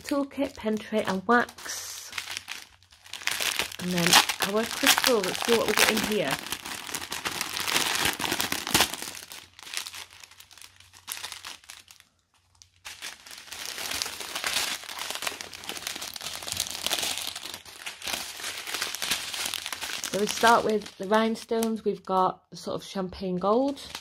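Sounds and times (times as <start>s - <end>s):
plastic packets crinkling: 0.0s - 22.2s, 23.4s - 24.0s.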